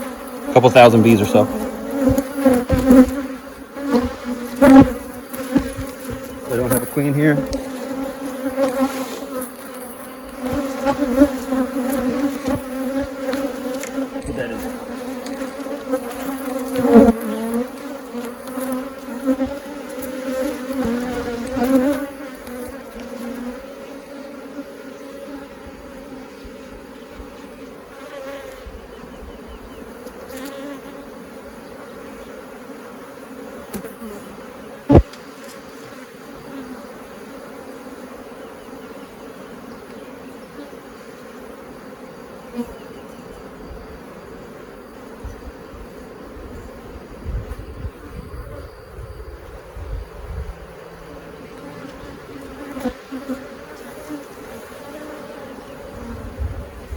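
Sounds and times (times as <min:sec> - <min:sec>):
honeybees buzzing: 0:00.0 - 0:56.9.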